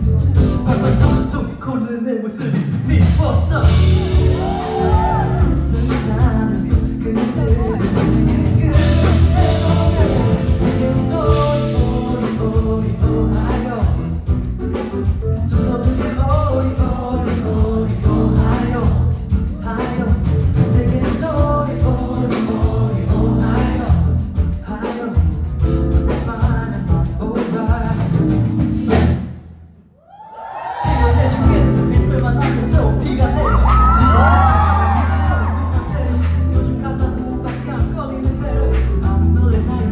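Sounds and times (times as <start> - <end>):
person singing: 0.0 - 29.2, 30.6 - 39.9
live band playing pop song: 0.0 - 29.4, 30.6 - 39.9.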